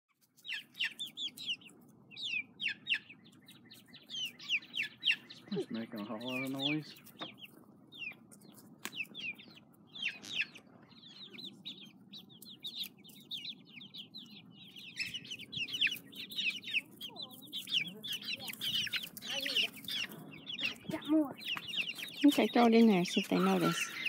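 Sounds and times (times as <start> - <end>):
chicks peeping: 0.1 - 24.0.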